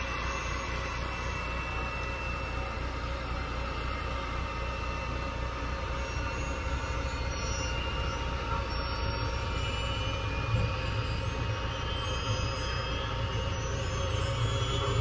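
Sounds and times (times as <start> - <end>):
aircraft engine rumble and whine: 0.0 - 15.0.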